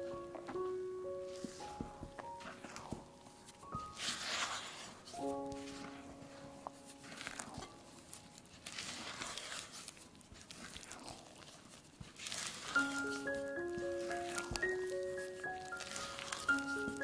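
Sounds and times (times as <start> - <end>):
background music notes: 0.0 - 9.7, 12.6 - 17.0
spatula stirring batter in bowl: 1.3 - 17.0.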